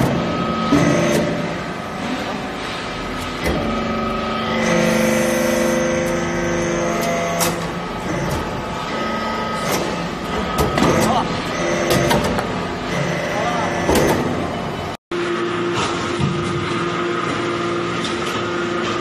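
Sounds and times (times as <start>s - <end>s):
hydraulic pump whine: 0.0s - 19.0s.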